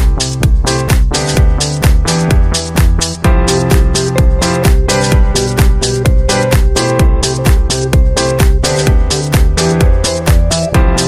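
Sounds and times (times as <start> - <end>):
kick drum beat: 0.0 - 11.0.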